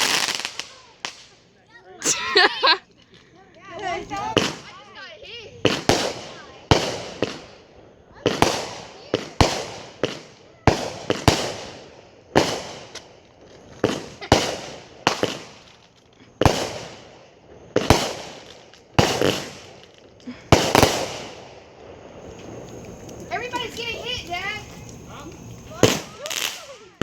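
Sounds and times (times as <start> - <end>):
firework cake bangs: 0.0 - 1.4, 4.0 - 5.0, 5.6 - 27.0.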